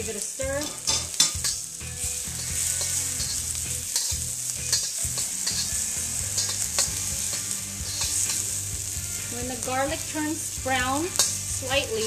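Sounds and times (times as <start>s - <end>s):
garlic sizzling in hot oil: 0.0s - 12.0s
utensil scraping a wok: 0.0s - 12.0s.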